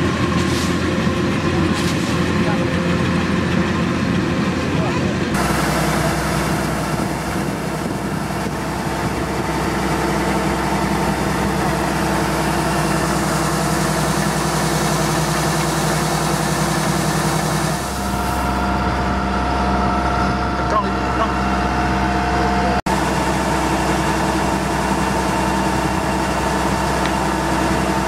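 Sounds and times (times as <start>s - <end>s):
harvester engine running: 0.0s - 28.0s.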